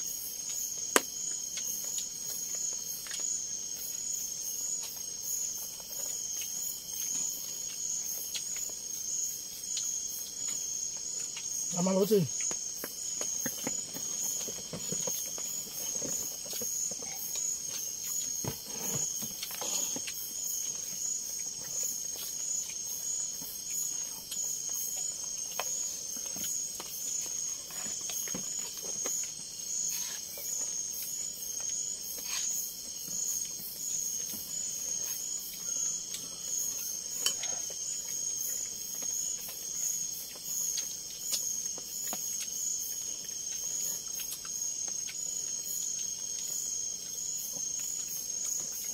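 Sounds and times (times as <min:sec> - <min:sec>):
crickets trilling: 0:00.0 - 0:48.9.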